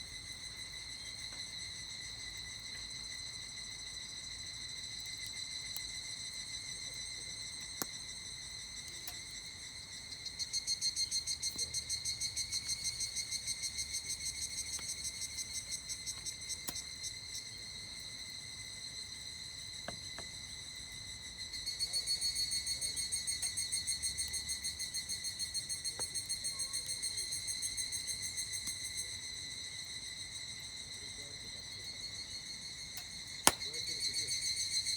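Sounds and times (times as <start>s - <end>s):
campfire crackling: 0.0s - 34.9s
cicadas calling: 0.0s - 34.9s
steady high insect buzz: 0.0s - 34.9s.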